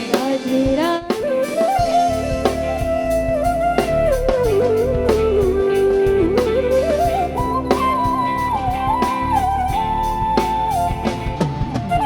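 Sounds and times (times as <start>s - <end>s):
melody line: 1.8s - 12.0s
steady bass: 1.9s - 12.0s.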